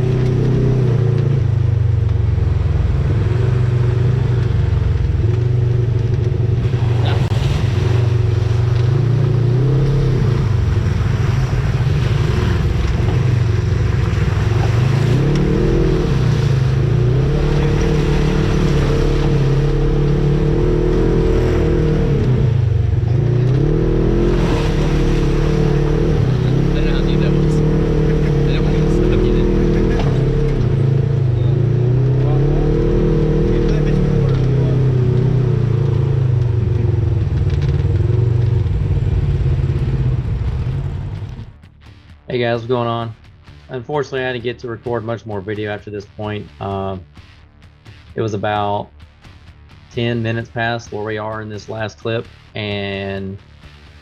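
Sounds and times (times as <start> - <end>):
off-road vehicle engine driving: 0.0 - 54.0.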